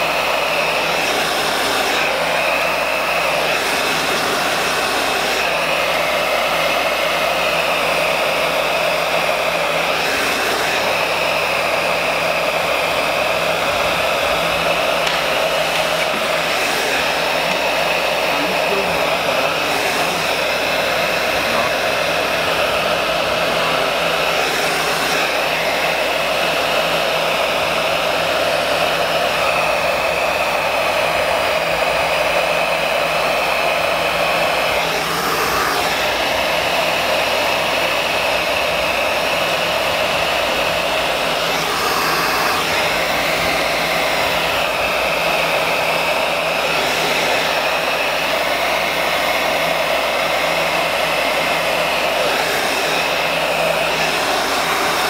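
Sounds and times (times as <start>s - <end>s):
heat gun blowing air: 0.0s - 55.0s.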